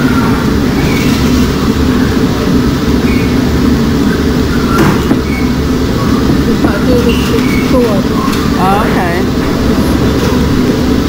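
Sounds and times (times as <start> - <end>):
factory machinery rumbling: 0.0 - 11.0.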